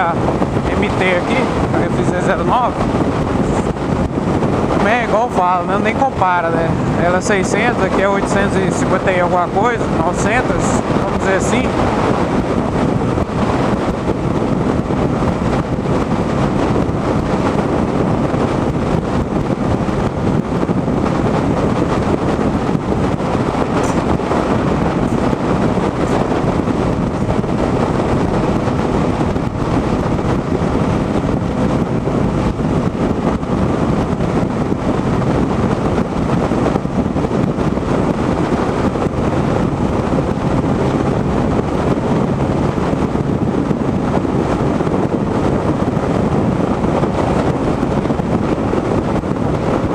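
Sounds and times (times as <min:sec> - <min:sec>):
motorcycle engine drone: 0:00.0 - 0:49.9
wind rushing over microphone: 0:00.0 - 0:49.9.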